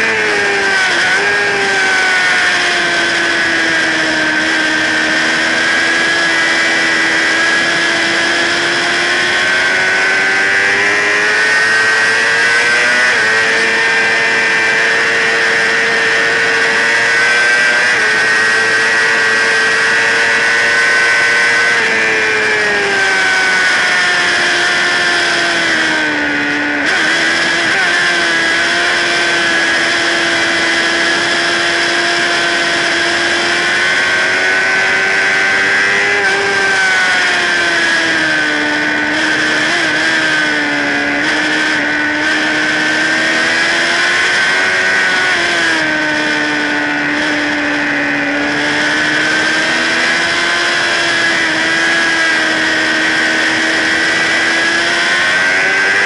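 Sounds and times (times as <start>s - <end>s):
motorcycle engine revving high: 0.0s - 56.0s.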